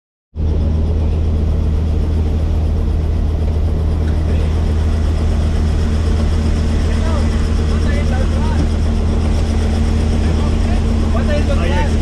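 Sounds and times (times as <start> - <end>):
helicopter engine and rotor drone: 0.4 - 12.0.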